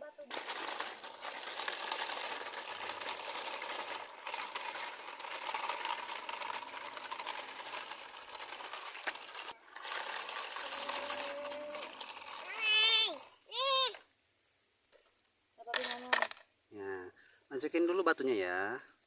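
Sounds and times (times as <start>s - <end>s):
toy motor whirring with gear rattle: 0.1s - 14.0s, 15.0s - 16.4s.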